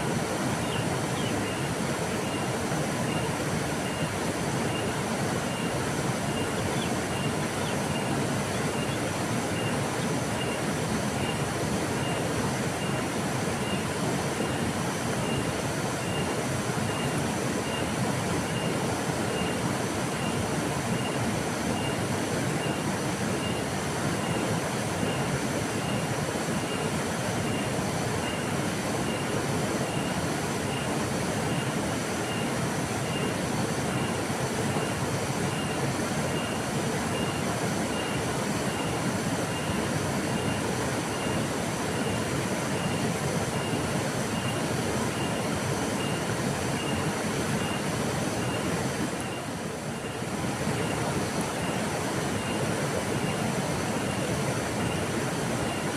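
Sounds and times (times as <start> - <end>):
river rushing: 0.0 - 55.9.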